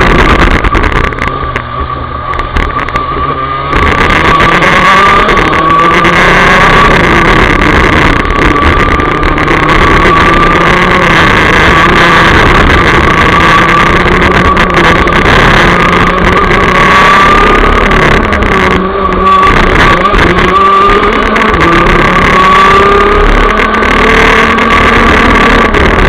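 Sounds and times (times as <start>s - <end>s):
kart engine running flat out: 2.5s - 26.0s.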